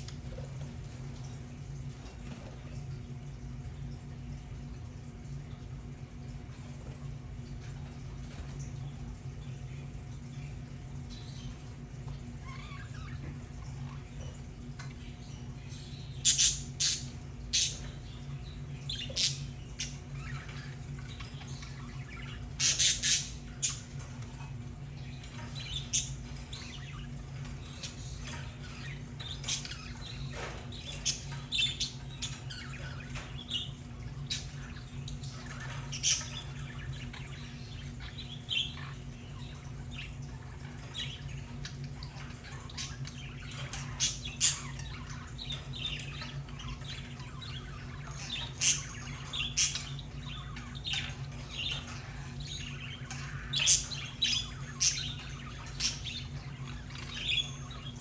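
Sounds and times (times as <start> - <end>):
budgerigars chirping and squawking: 0.0 - 3.9, 4.5 - 58.0.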